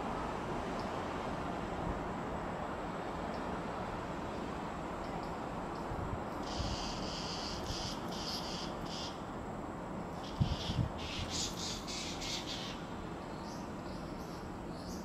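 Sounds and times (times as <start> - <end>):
insects chirping: 2.4 - 15.0.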